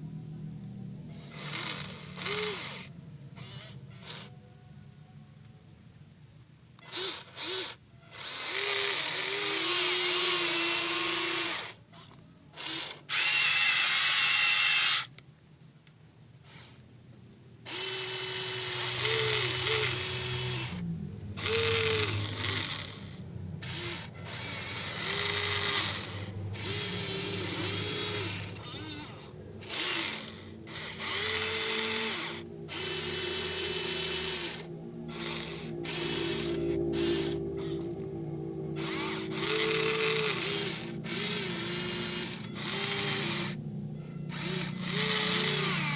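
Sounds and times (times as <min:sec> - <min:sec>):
electric gear motors whining: 0:00.0 - 0:04.5, 0:06.8 - 0:15.2, 0:16.4 - 0:16.8, 0:17.6 - 0:45.9.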